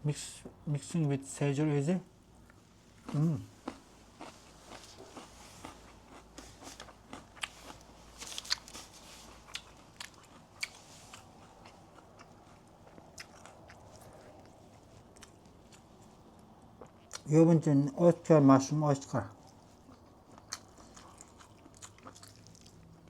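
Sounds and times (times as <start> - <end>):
person chewing food: 2.4 - 17.3, 19.4 - 23.0.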